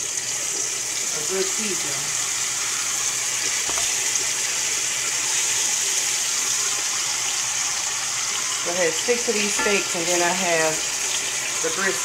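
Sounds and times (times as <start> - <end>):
steaks sizzling in a frying pan: 0.0 - 12.0.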